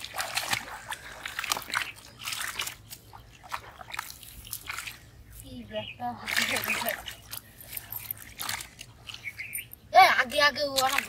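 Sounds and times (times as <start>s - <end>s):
shallow water splashing: 0.0s - 5.4s, 6.2s - 11.0s.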